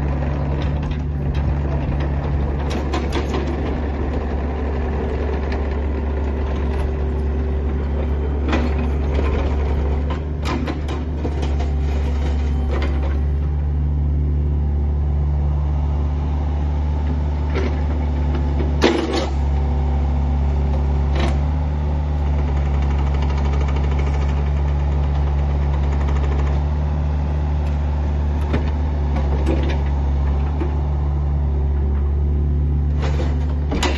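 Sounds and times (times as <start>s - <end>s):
excavator arm and bucket clunks: 0.0s - 13.8s, 17.0s - 19.8s, 20.6s - 26.8s, 27.6s - 33.9s
diesel engine running: 0.0s - 33.9s.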